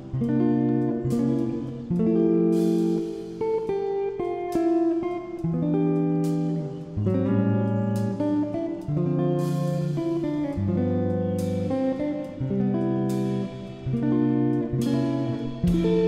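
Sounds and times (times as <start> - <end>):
guitar playing chords: 0.0 - 16.0.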